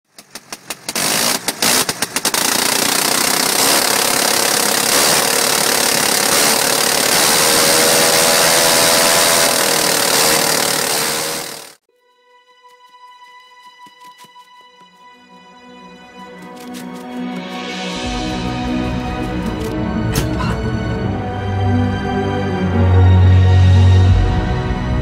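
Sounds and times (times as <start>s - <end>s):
aircraft engine running: 0.1s - 11.8s, 12.6s - 25.0s.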